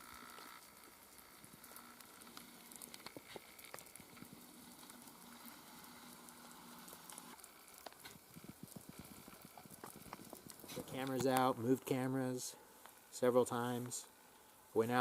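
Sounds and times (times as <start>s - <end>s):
faint crackling hiss: 0.0s - 15.0s.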